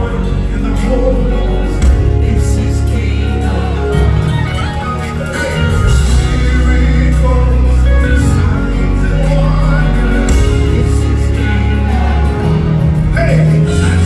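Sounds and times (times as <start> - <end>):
gospel band playing: 0.0 - 14.0
heavy bass line: 0.0 - 14.0
person singing: 0.0 - 14.0.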